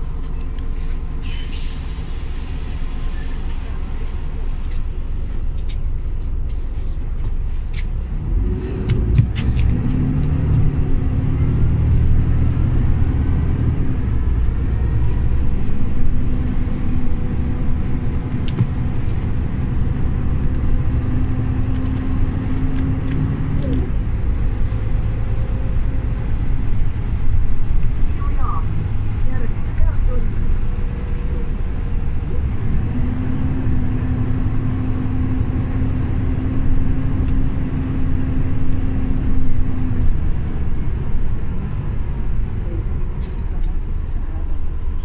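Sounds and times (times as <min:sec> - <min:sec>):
bus engine running: 0:00.0 - 0:45.0.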